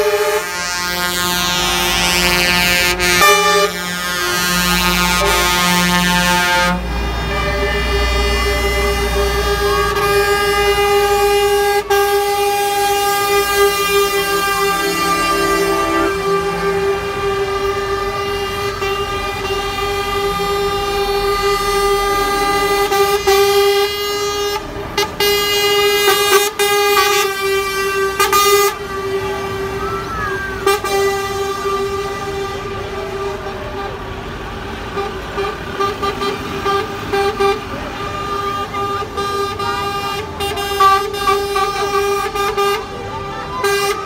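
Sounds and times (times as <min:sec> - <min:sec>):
lorry air horns blasting: 0:00.0 - 0:44.0.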